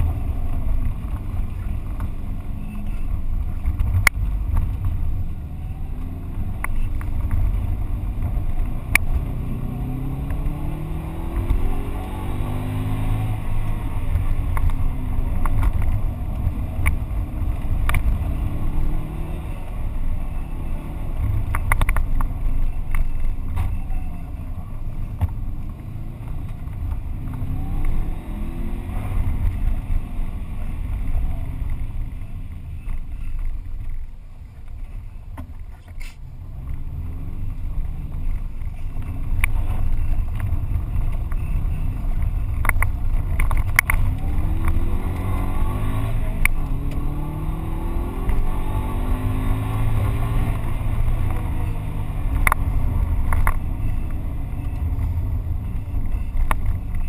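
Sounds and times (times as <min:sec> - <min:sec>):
car engine accelerating hard: 0:00.0 - 0:33.4, 0:36.4 - 0:57.0.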